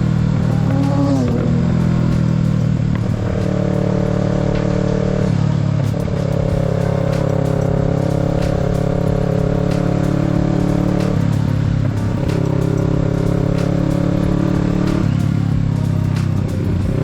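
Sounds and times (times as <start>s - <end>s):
background music: 0.0s - 17.0s
motorcycle running: 0.0s - 17.0s.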